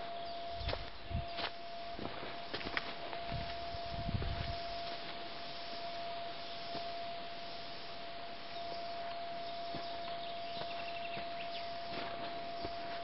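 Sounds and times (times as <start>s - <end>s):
steady hiss: 0.0s - 13.0s
thin whine: 0.0s - 13.0s.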